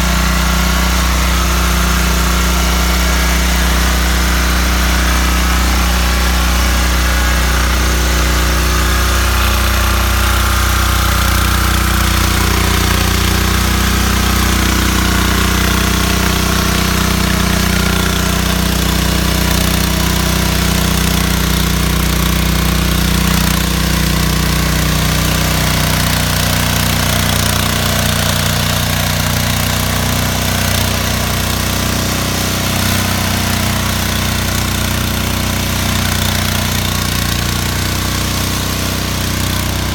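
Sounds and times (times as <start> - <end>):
rotary tiller engine running: 0.0 - 39.9.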